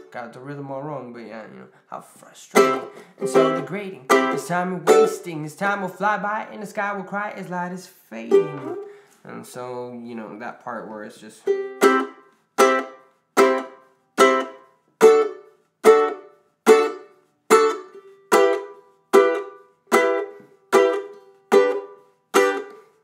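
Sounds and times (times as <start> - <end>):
ukulele strumming: 0.0 - 1.3, 2.4 - 23.0.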